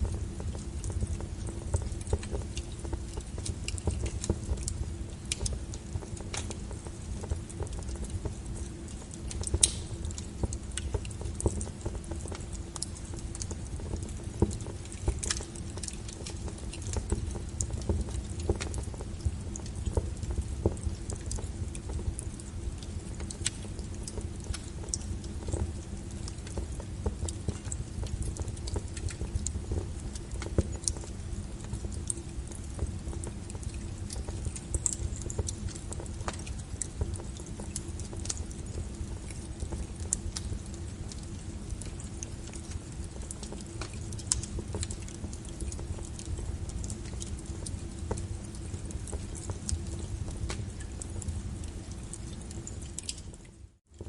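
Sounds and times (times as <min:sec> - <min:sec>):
fire crackles and pops: 0:00.0 - 0:54.0
wood fire rumbling: 0:00.0 - 0:54.0.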